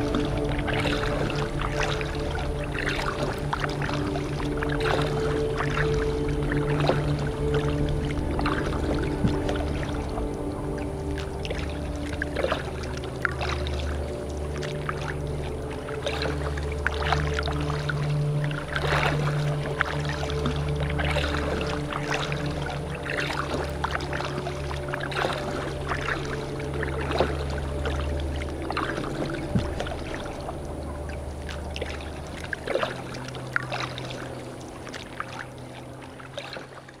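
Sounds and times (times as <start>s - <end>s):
steady low hum: 0.0s - 37.0s
water lapping against kayak hull: 0.0s - 37.0s.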